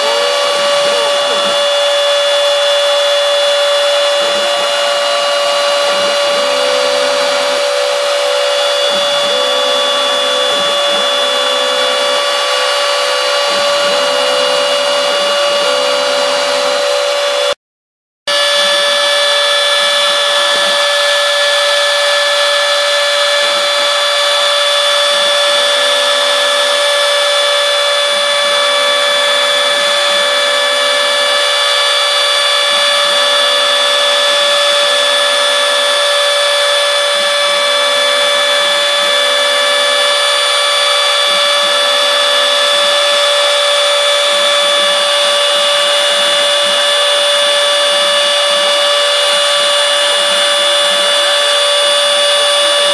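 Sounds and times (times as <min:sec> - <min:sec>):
router spindle whining: 0:00.0 - 0:17.6, 0:18.3 - 0:52.9.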